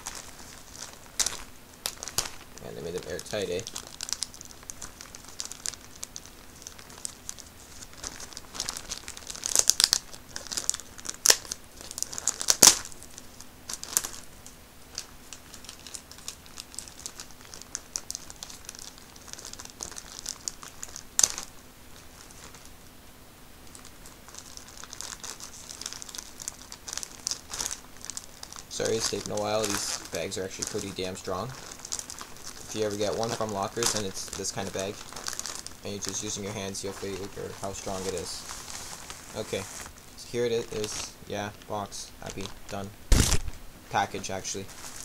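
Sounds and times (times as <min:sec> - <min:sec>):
plastic bag crinkling: 0:00.0 - 0:22.8, 0:23.6 - 0:45.0.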